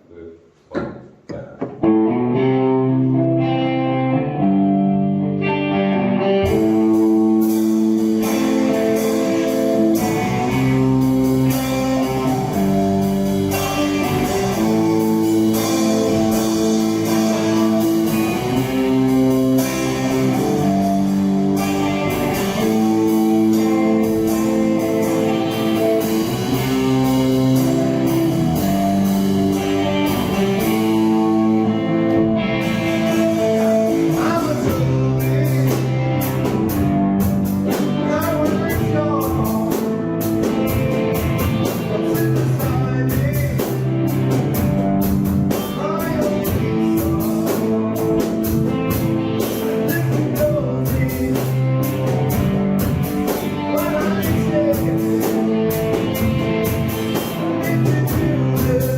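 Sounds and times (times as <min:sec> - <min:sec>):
rock band with guitar chords: 0:01.0 - 0:58.9.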